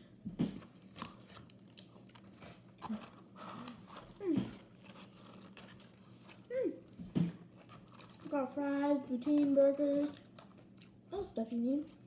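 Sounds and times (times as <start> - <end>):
person chewing food: 0.0 - 11.2.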